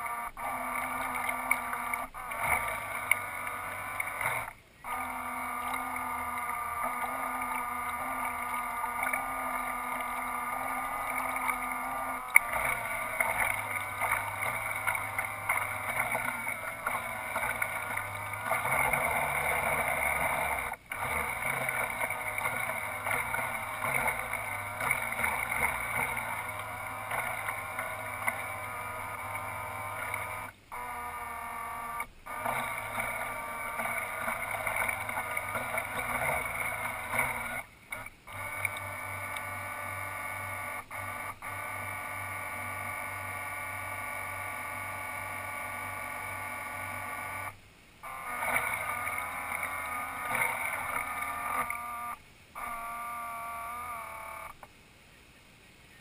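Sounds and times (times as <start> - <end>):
model boat motors humming: 0.0 - 56.0
water sloshing against hull: 0.1 - 53.0.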